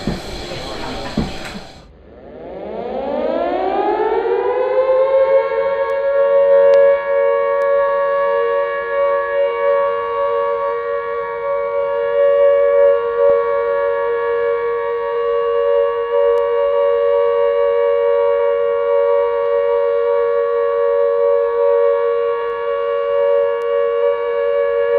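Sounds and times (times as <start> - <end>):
air-raid siren winding up: 2.5 - 24.9.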